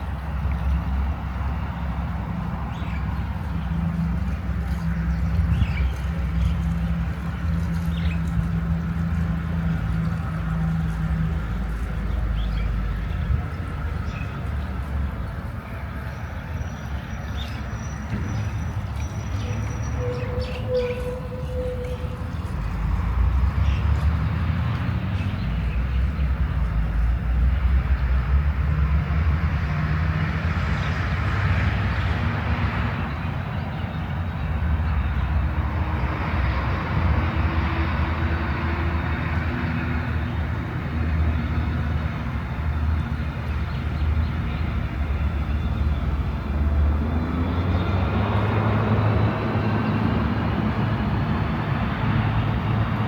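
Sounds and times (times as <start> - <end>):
engine low rumble: 0.0 - 53.0.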